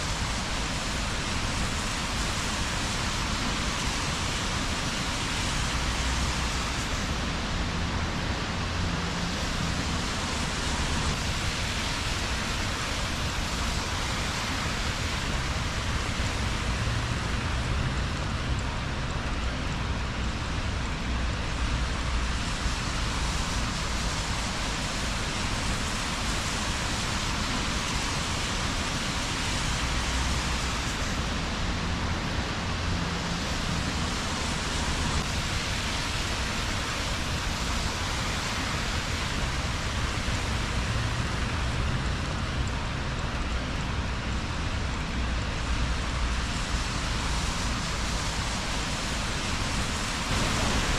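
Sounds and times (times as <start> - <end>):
rain on streets: 0.0 - 50.9.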